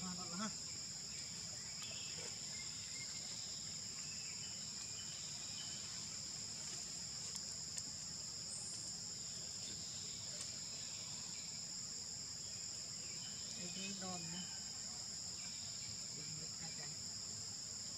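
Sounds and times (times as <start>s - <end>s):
insects droning: 0.0s - 17.9s.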